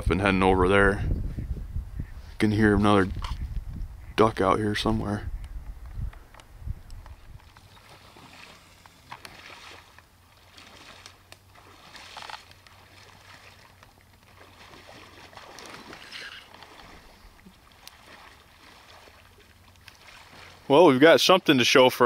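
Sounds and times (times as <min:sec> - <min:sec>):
low steady hum: 0:00.0 - 0:20.7
wading through reeds and water: 0:00.8 - 0:22.0.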